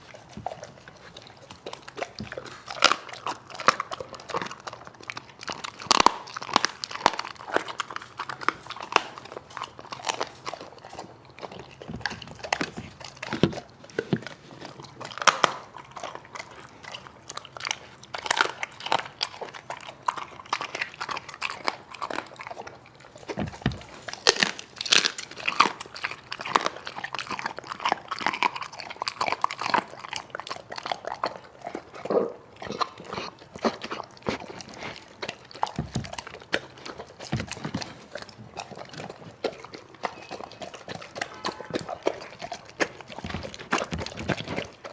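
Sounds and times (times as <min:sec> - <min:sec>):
dog chewing and crunching food: 0:00.0 - 0:44.9.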